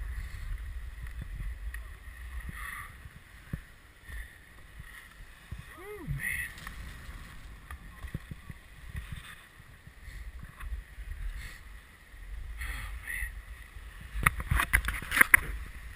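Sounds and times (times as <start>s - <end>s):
skis scraping over packed snow: 0.0s - 15.9s
wind rumble on microphone: 0.0s - 15.9s.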